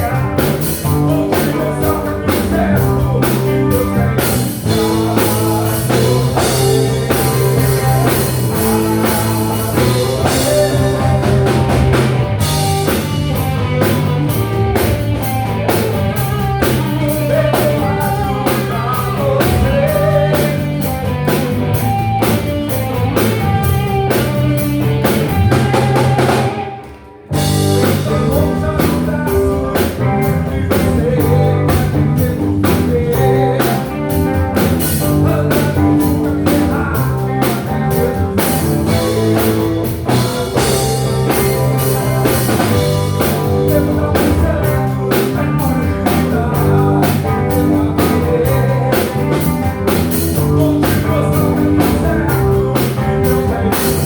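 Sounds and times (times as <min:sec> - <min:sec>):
bass guitar: 0:00.0 - 0:54.0
drum kit: 0:00.0 - 0:54.0
electric guitar: 0:00.0 - 0:54.0
melodic lead line: 0:00.0 - 0:54.0.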